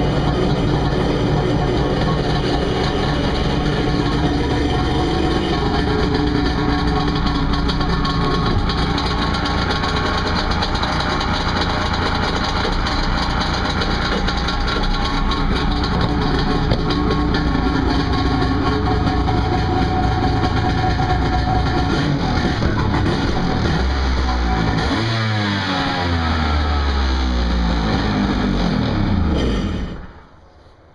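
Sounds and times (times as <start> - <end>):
jet ski engine idling: 0.0 - 25.3.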